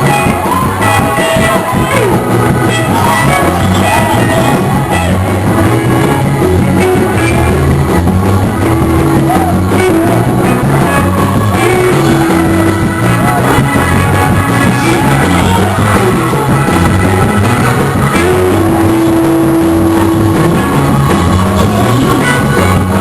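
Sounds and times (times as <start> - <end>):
gospel church band music: 0.0 - 23.0.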